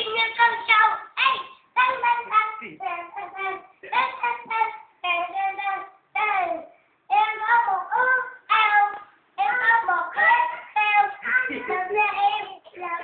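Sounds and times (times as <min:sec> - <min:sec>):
young child singing: 0:00.0 - 0:13.0.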